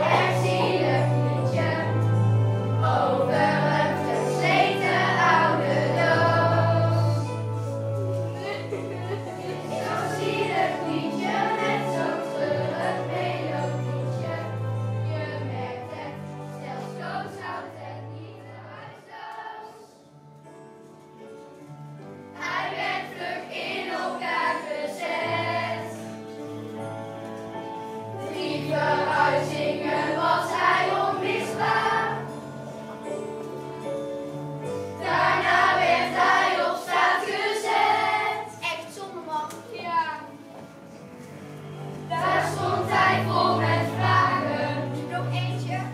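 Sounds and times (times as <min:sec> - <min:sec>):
children's choir singing: 0:00.0 - 0:20.2, 0:22.3 - 0:38.6, 0:41.6 - 0:45.9.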